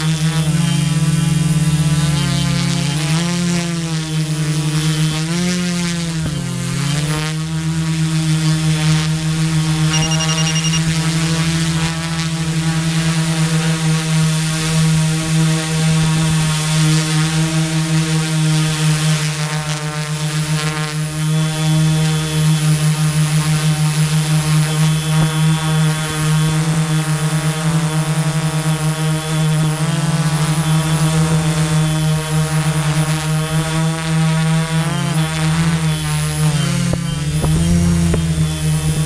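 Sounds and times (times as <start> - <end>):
drone buzzing in flight: 0.0 - 39.0.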